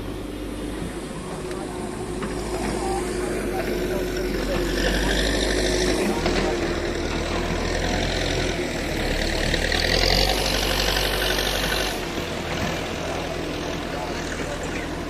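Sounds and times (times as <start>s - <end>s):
heavy machinery engine running: 0.0s - 15.0s.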